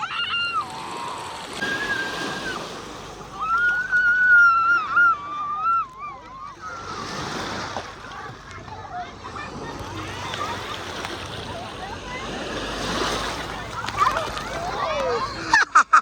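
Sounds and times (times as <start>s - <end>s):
surf washing on beach: 0.0s - 15.7s
water sloshing: 0.0s - 15.8s.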